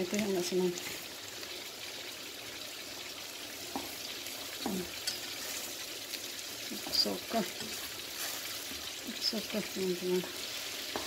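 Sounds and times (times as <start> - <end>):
pan sizzling and bubbling: 0.0 - 11.0.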